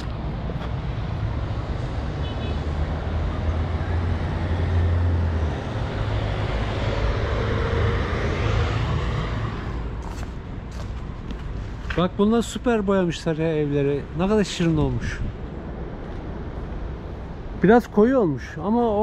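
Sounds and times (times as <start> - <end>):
passing vehicles: 0.0 - 19.0.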